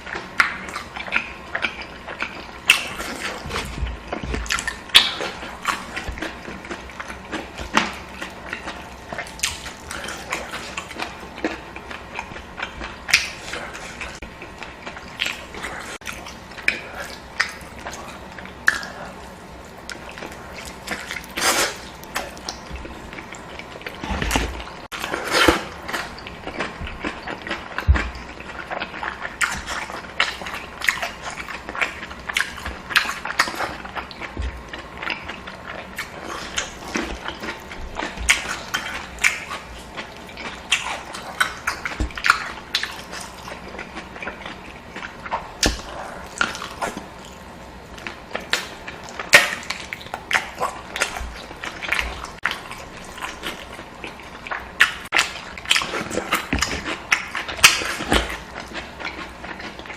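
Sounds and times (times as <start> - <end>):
chewing and mouth smacking: 0.0 - 59.9.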